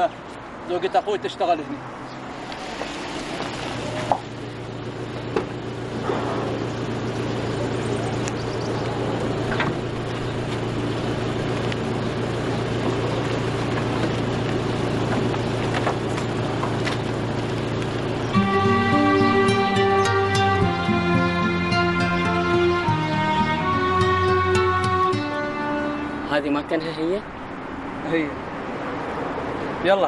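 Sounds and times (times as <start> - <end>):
minibus engine idling: 2.2 - 27.8.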